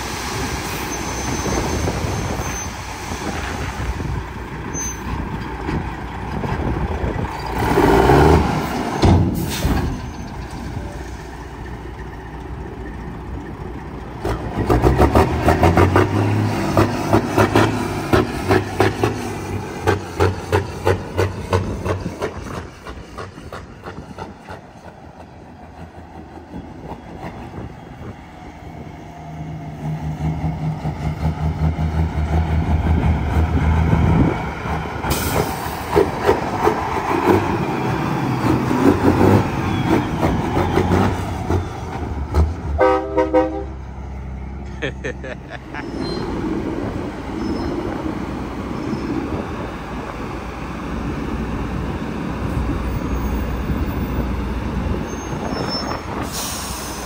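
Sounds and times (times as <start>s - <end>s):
diesel truck engine running: 1.8s - 55.1s.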